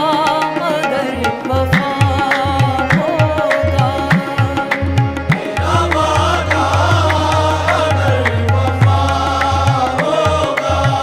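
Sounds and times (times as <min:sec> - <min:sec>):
tabla-like drum beat: 0:00.0 - 0:11.0.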